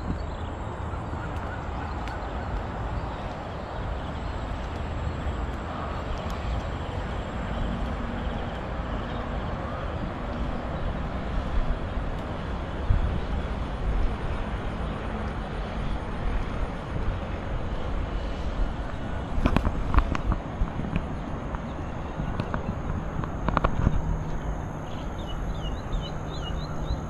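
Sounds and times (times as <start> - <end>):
distant engine rumble: 0.0 - 27.0.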